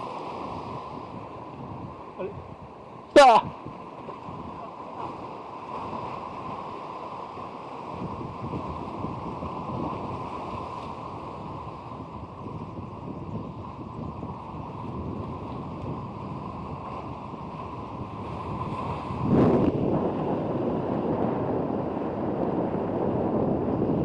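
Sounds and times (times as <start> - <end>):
waves washing onto cobble shore: 0.0 - 2.3, 3.0 - 24.0
wind buffeting microphone: 0.0 - 24.0.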